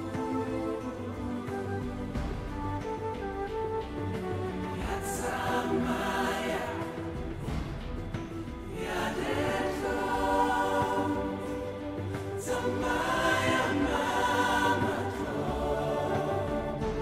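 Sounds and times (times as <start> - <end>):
choir singing held chords: 0.0 - 3.2, 3.9 - 17.0.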